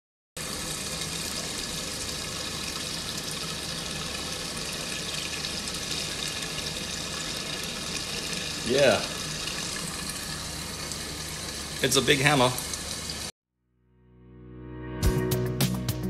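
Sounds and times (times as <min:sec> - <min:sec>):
running water rushing: 0:00.4 - 0:13.3.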